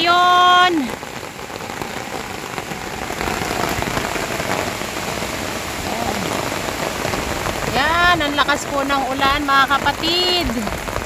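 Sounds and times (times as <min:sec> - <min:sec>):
heavy rain on umbrella: 0:00.0 - 0:11.0.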